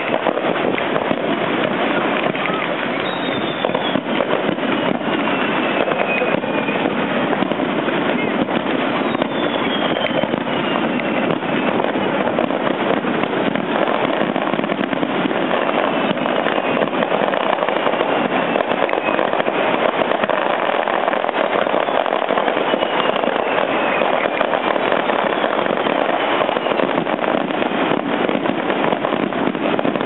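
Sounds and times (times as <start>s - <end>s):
falling firework whistle: 0.0s - 30.0s
fireworks crackling: 0.0s - 30.0s.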